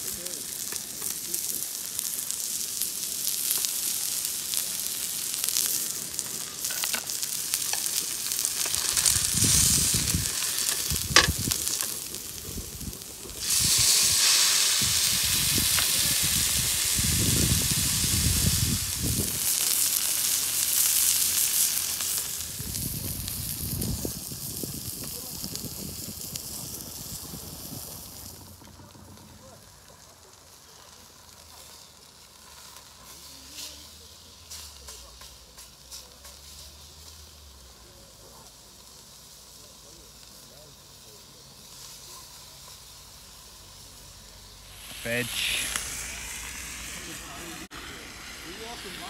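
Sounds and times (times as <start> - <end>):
food sizzling on a griddle: 0.0 - 49.0.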